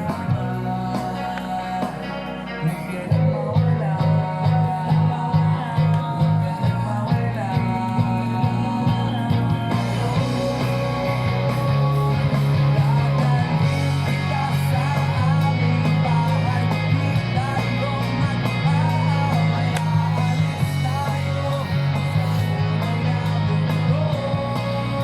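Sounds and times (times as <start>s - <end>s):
bass line: 0.0s - 25.0s
guitar: 0.0s - 25.0s
person singing: 0.0s - 25.0s.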